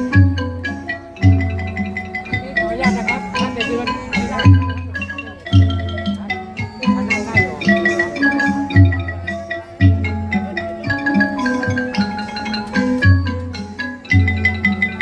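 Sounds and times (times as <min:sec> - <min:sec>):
low drum beats: 0:00.0 - 0:15.0
wooden xylophone melody: 0:00.0 - 0:15.0.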